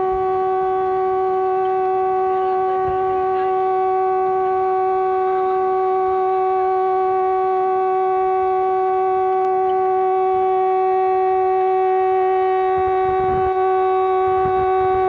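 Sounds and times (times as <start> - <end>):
steady single-pitched tone: 0.0 - 15.0.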